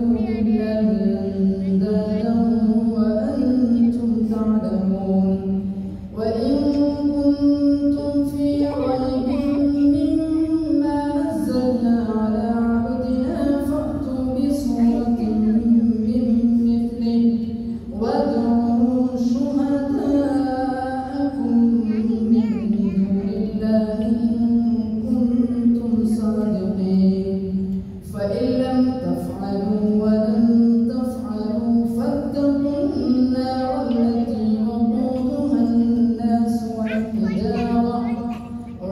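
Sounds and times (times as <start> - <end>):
man chanting melodic recitation: 0.0 - 38.9.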